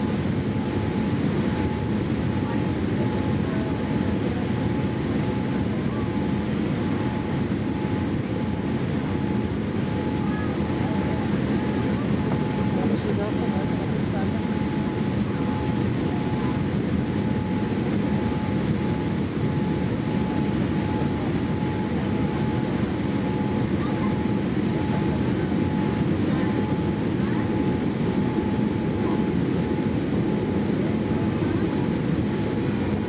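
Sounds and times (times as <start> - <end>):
airliner cabin engine noise: 0.0 - 33.0
faint steady whine: 0.0 - 33.0.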